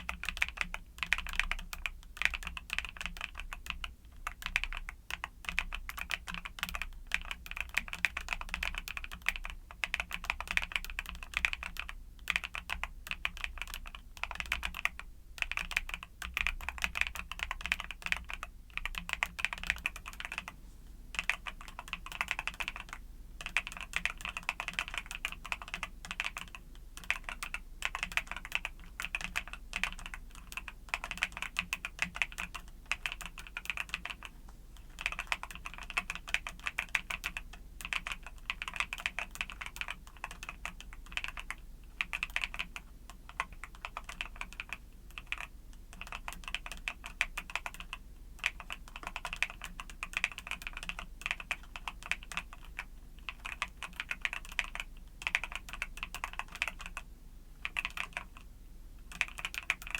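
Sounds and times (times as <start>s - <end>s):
faint low hum: 0.0s - 59.9s
fast typing on mechanical keyboard: 0.0s - 59.9s.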